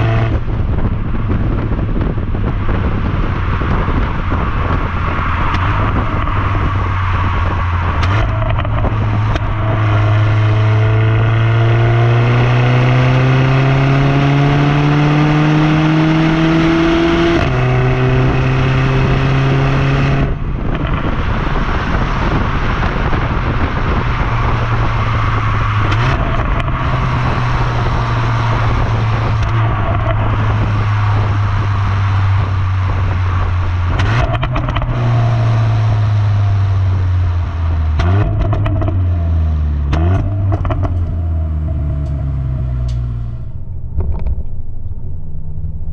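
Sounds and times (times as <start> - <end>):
car engine accelerating: 0.0 - 45.9.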